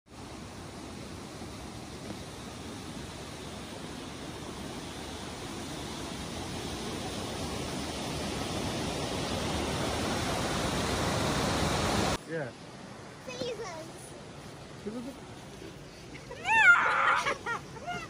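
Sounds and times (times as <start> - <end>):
mountain stream rushing: 0.1 - 18.0.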